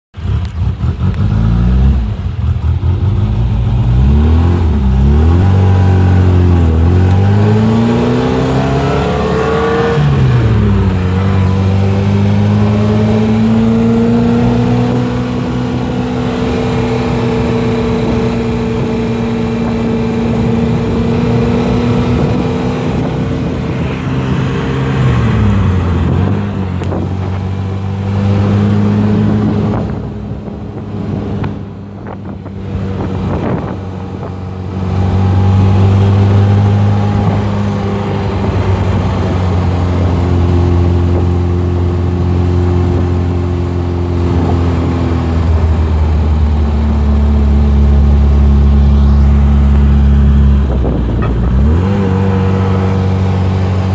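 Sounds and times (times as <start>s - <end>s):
car engine revving: 0.2s - 53.9s.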